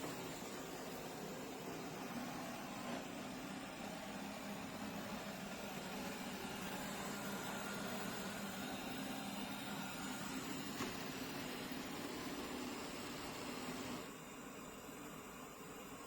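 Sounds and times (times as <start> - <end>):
robot vacuum suction fan whirring: 0.0 - 14.2.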